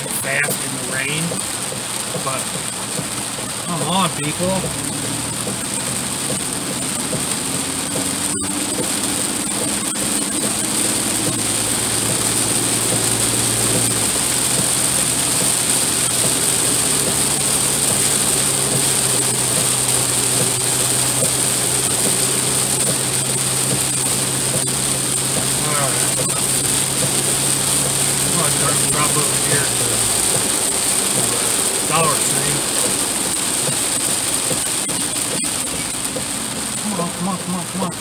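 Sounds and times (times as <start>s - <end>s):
rain and road spray hiss: 0.0s - 38.0s
truck engine running: 0.0s - 38.0s.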